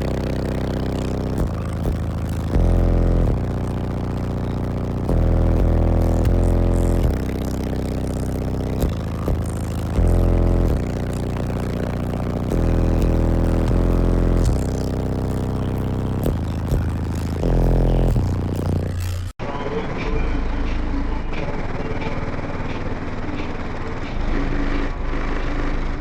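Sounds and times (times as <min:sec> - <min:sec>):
loud deep bass from subwoofers: 0:00.0 - 0:26.0.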